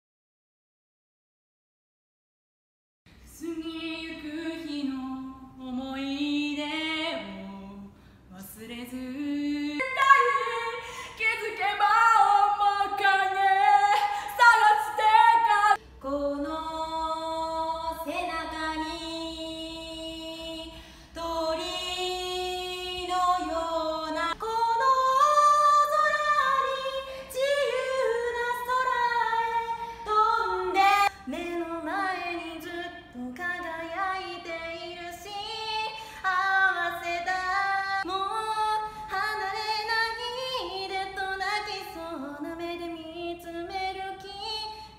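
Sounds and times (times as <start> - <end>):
women singing unaccompanied: 3.3 - 44.9.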